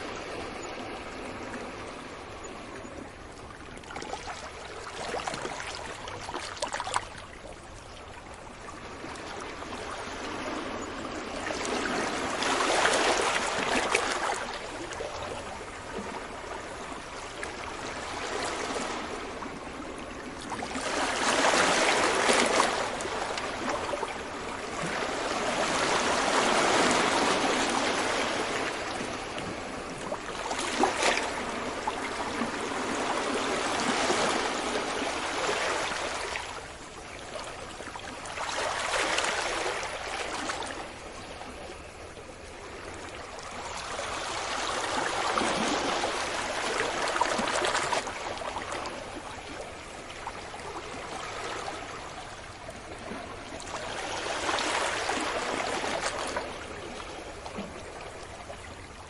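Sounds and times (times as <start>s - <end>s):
ocean waves washing onto beach: 0.0s - 59.0s.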